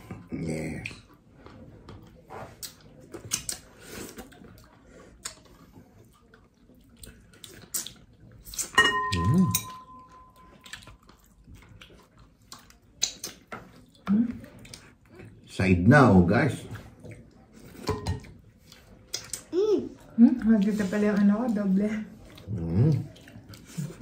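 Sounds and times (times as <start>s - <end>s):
wet eating sounds: 0.0s - 24.0s.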